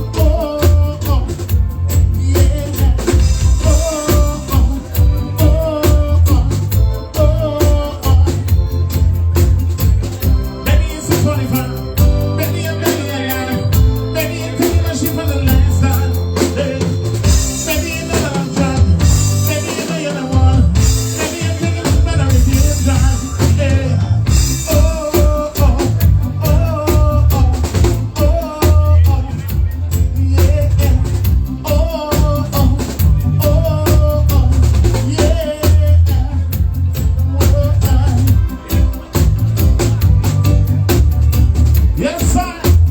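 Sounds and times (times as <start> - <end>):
bass line: 0.0 - 42.9
drum kit beat: 0.0 - 42.9.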